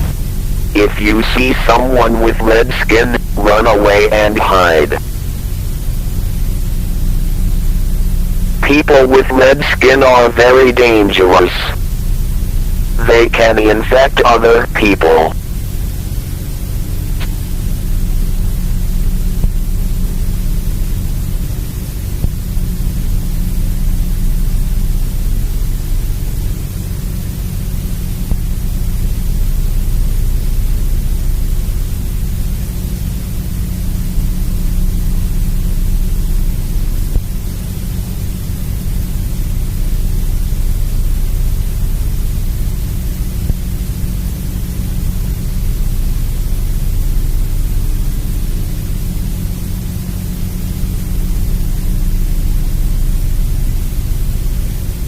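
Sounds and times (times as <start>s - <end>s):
loud static hiss: 0.0s - 55.0s
low steady hum: 0.0s - 55.0s.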